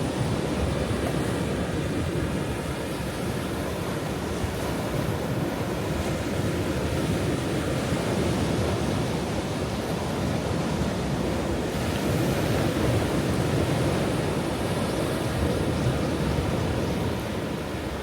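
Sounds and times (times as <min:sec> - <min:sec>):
ocean waves washing onto shore: 0:00.0 - 0:18.0.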